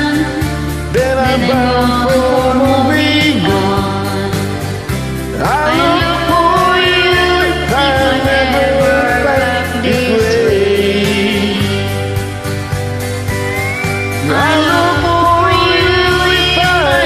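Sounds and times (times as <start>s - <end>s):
guitar: 0.0s - 17.0s
slow country-folk ballad: 0.0s - 17.0s.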